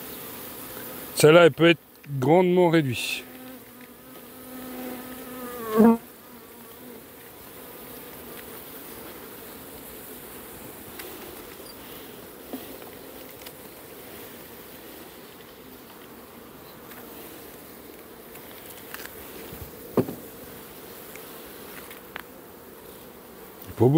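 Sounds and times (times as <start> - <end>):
bees buzzing: 0.0 - 23.9
bee flying past microphone: 3.2 - 23.6.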